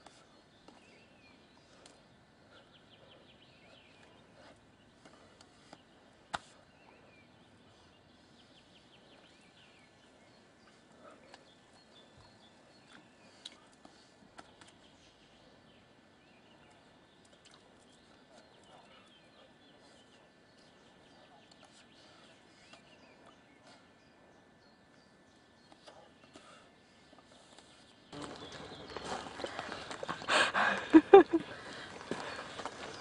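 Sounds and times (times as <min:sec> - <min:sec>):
faint birds chirping in trills: 0:00.0 - 0:33.0.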